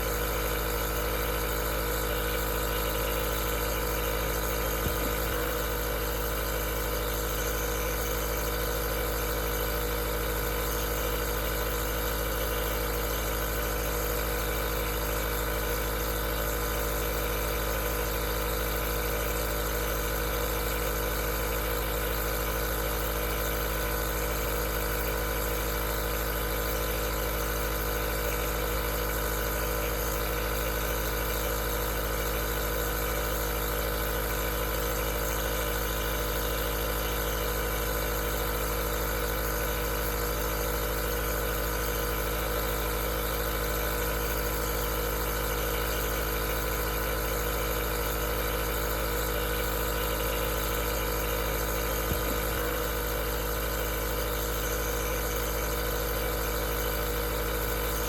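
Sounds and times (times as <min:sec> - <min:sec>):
nebulizer compressor humming: 0:00.0 - 0:58.0.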